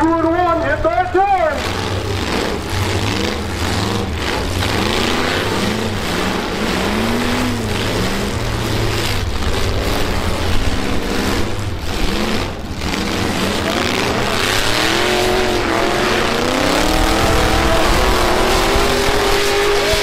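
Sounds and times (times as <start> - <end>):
low exhaust rumble: 0.0 - 20.0
pickup truck engines revving: 0.0 - 20.0.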